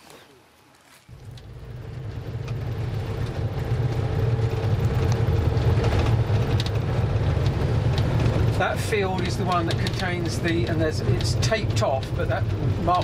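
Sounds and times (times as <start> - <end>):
minibus engine and road rumble: 0.3 - 13.0.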